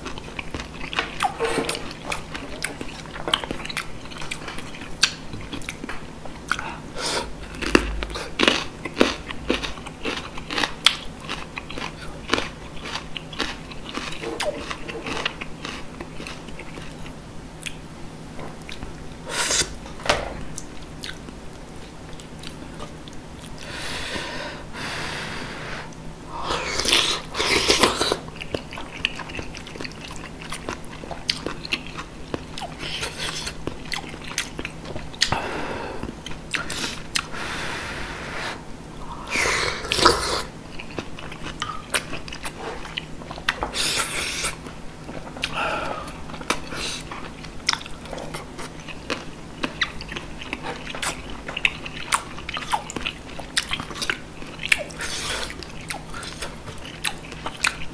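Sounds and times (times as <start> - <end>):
chewing: 0.0 - 6.8, 7.4 - 17.8, 18.6 - 19.8, 20.5 - 23.6, 26.4 - 35.4, 36.0 - 37.3, 39.2 - 57.9.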